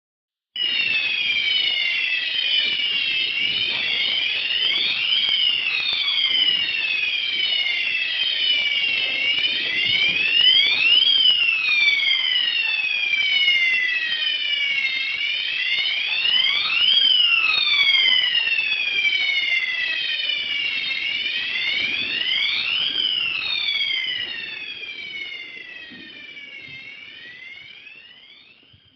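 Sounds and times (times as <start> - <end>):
fire alarm sirens wailing: 0.5 - 28.9.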